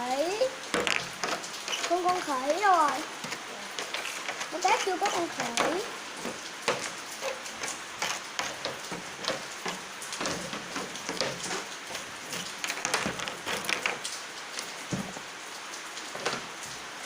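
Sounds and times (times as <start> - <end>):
sand crackling and tapping: 0.0 - 15.3.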